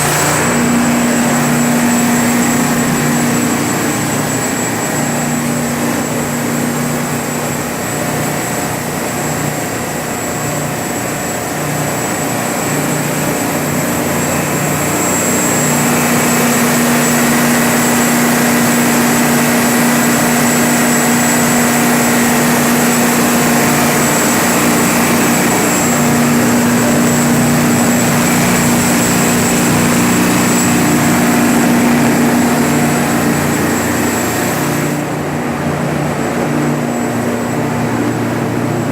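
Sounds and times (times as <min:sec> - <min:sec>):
thin high whine: 0:00.0 - 0:10.1, 0:10.7 - 0:38.9
diesel generator running: 0:00.0 - 0:38.9.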